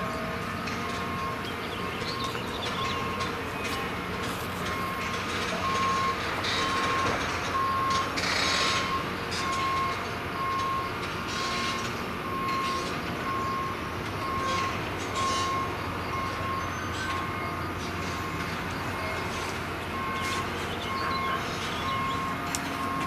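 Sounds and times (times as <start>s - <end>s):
engine running: 0.0s - 23.0s
reversing alarm beeping: 0.0s - 23.0s.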